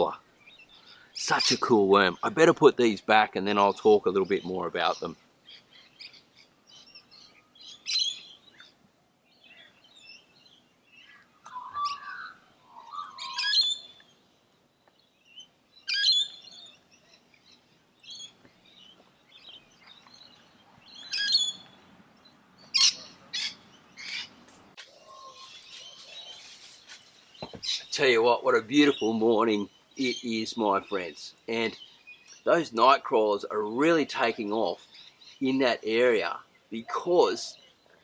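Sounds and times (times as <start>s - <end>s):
birds calling and chirping: 0.0s - 38.0s
faint outdoor background: 0.0s - 38.0s.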